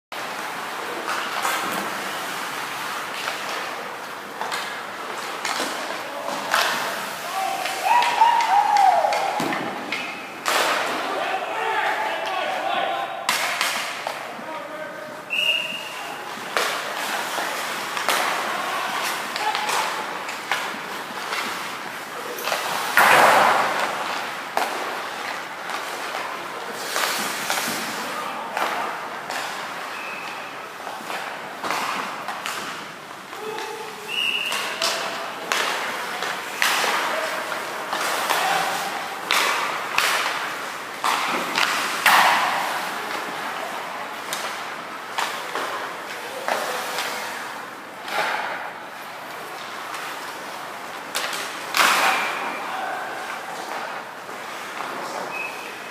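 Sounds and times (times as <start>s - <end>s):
pucks and sticks knocking: 0.2s - 55.9s
skates scraping on ice: 0.2s - 55.9s.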